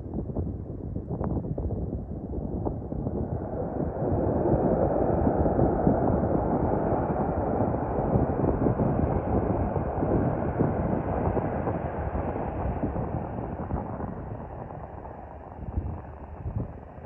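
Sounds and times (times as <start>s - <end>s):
jet engines rushing: 3.0s - 17.0s.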